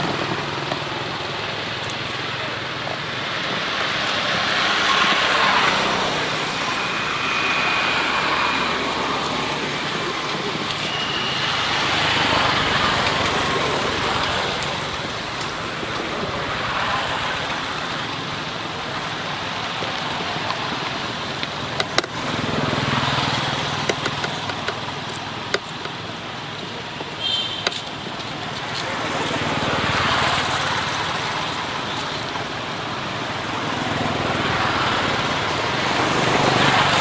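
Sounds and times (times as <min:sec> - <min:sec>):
rushing background noise: 0:00.0 - 0:37.0.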